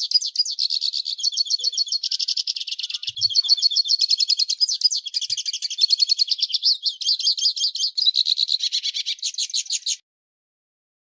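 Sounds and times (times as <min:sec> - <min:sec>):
bird twittering song: 0:00.0 - 0:10.0.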